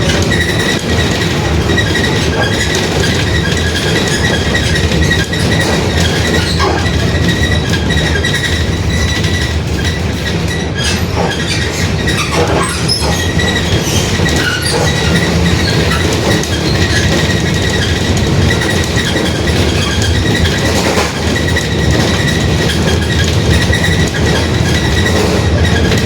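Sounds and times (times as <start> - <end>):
rattles and clicks: 0.0 - 26.0.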